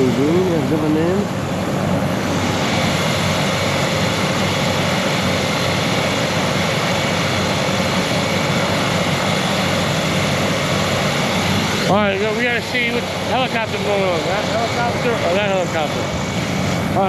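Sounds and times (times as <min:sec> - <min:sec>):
helicopter engine running: 0:00.0 - 0:17.0.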